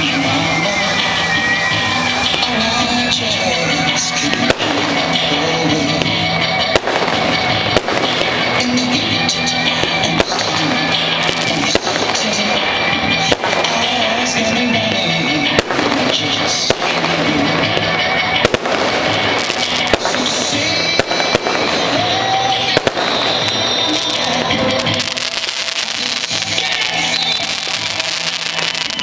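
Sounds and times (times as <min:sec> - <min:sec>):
fireworks bursting with sharp bangs: 0:00.0 - 0:29.0
loud steady music: 0:00.0 - 0:29.0.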